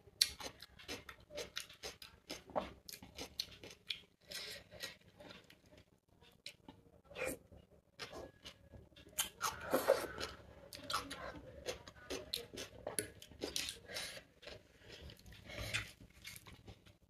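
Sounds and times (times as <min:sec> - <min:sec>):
chewing: 0:00.2 - 0:17.0.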